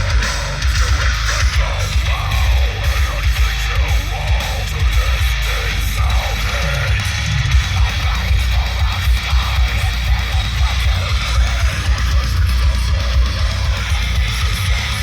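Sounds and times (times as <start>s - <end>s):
heavy rock music: 0.0s - 15.0s
pulsing subwoofer bass: 0.0s - 15.0s.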